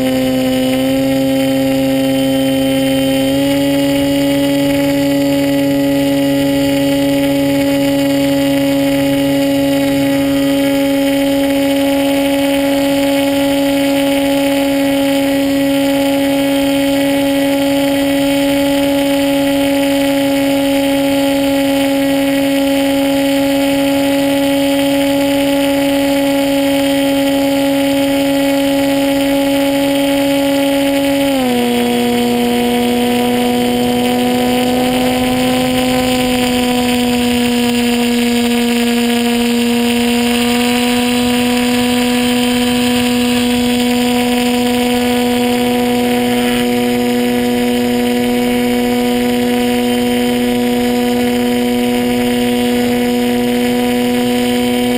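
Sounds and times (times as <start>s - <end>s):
model plane motor droning: 0.0s - 54.9s.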